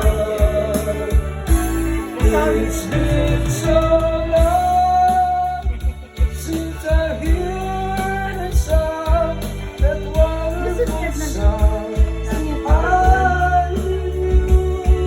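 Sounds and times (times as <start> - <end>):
pop love song: 0.0 - 15.0
singer holding long notes: 0.0 - 15.0.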